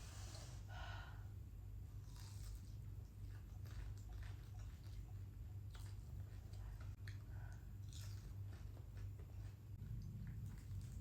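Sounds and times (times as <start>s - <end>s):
low hum: 0.0s - 11.0s
chewing and crunching food: 1.9s - 11.0s.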